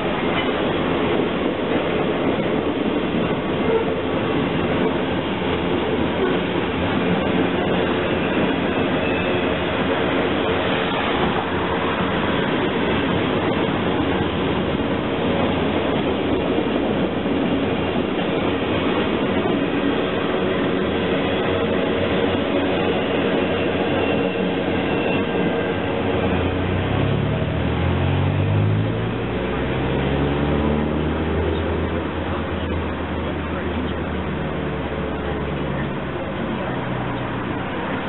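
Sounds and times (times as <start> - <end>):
freight train rolling past: 0.0 - 38.0.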